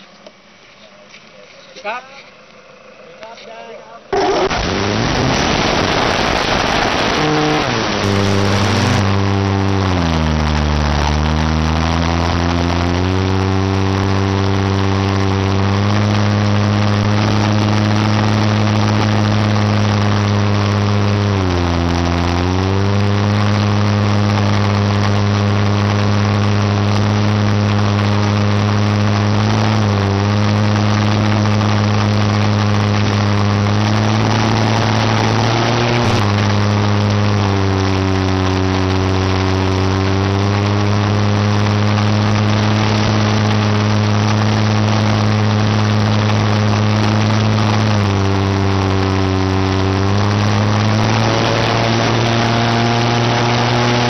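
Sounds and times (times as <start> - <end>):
engine idling: 4.1 - 54.0.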